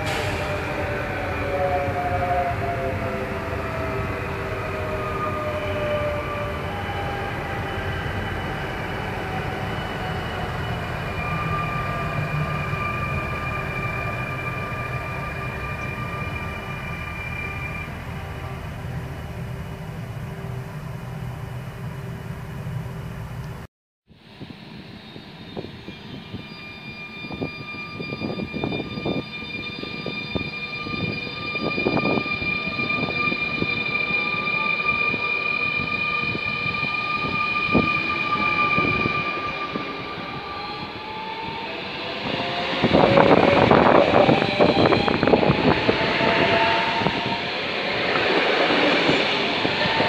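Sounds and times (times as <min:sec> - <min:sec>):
electric train whine: 0:00.0 - 0:50.0.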